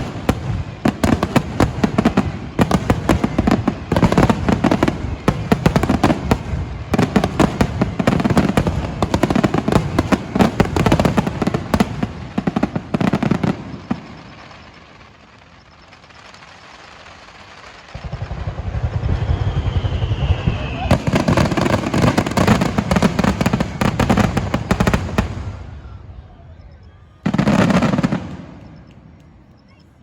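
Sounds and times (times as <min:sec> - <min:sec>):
fireworks bursts and crackling: 0:00.0 - 0:30.0.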